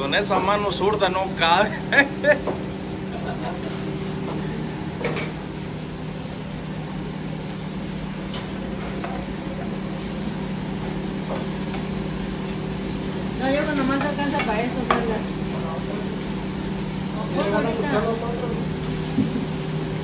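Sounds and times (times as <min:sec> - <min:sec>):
kitchen machine hum: 0:00.0 - 0:20.0
food simmering in a pan: 0:02.0 - 0:20.0.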